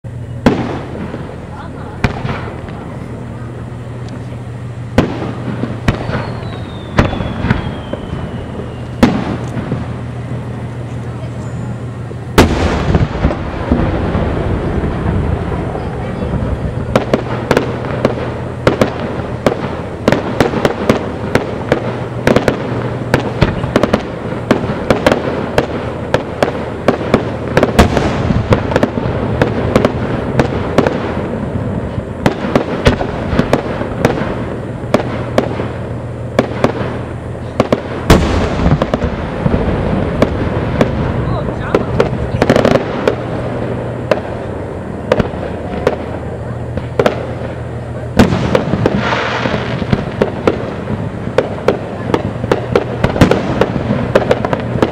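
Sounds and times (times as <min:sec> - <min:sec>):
fireworks bursting: 0:00.0 - 0:54.9
fireworks crackling: 0:00.0 - 0:54.9
heavy fireworks booms: 0:00.0 - 0:54.9.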